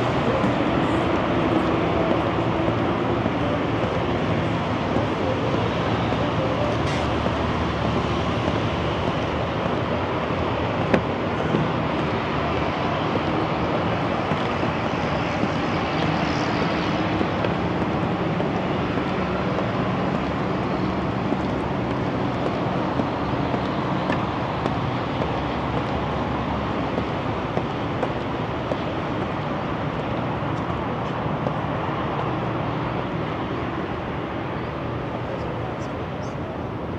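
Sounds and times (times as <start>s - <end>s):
expressway traffic rushing: 0.0s - 36.9s
faint engine hum: 0.0s - 36.9s.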